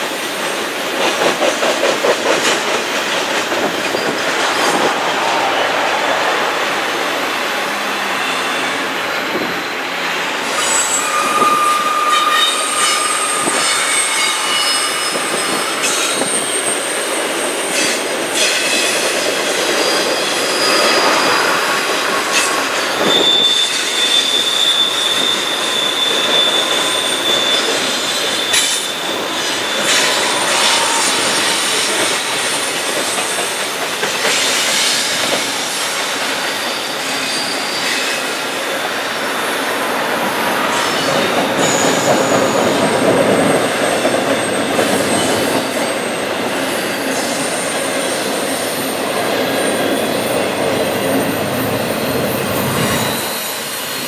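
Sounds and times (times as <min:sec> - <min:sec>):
steel wheels clattering on rail: 0:00.0 - 0:07.5, 0:08.3 - 0:54.0
high wheel squeals: 0:03.8 - 0:18.8, 0:19.5 - 0:39.6, 0:40.5 - 0:54.0.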